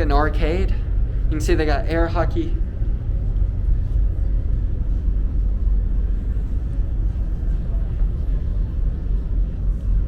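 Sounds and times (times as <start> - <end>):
low rumble of ship engines: 0.0 - 10.0.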